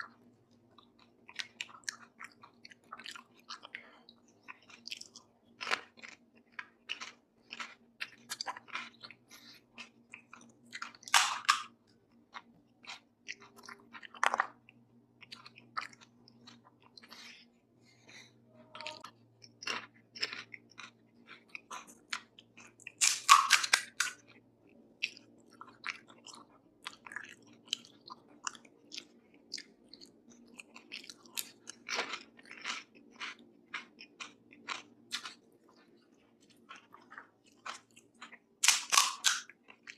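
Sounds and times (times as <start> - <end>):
chewing and crunching crisp shells: 0.0 - 39.9.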